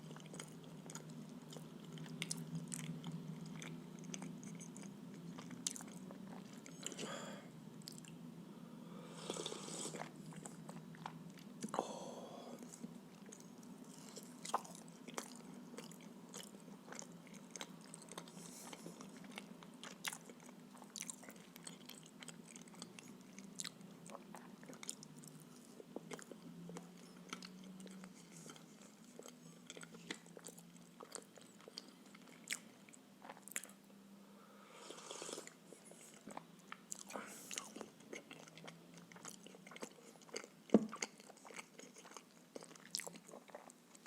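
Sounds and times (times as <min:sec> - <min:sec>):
chewing with mouth clicks: 0:00.0 - 0:07.0, 0:07.8 - 0:08.2, 0:09.4 - 0:11.8, 0:12.6 - 0:33.8, 0:35.4 - 0:44.0
low steady hum: 0:00.0 - 0:44.0.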